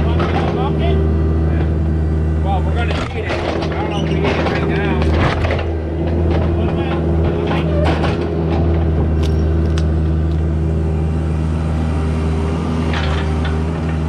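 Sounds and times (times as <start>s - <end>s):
heavy equipment engine running: 0.0s - 14.0s.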